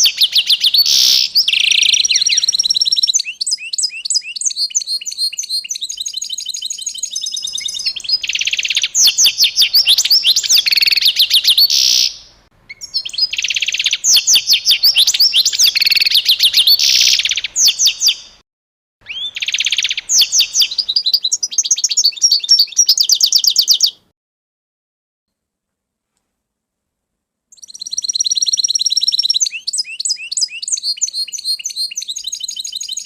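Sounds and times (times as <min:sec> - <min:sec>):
songbird singing: 0:00.0 - 0:18.4, 0:19.0 - 0:24.1, 0:27.5 - 0:33.0.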